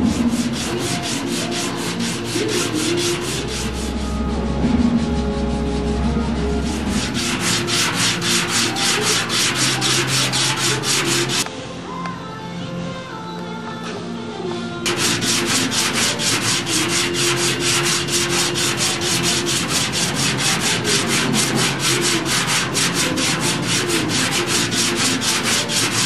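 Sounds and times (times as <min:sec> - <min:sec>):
sandpaper scraping metal: 0:00.0 - 0:11.4, 0:14.9 - 0:26.0.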